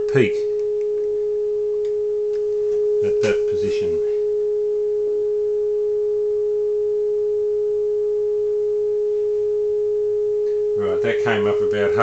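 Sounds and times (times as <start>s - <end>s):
steady single-pitched tone: 0.0s - 12.0s.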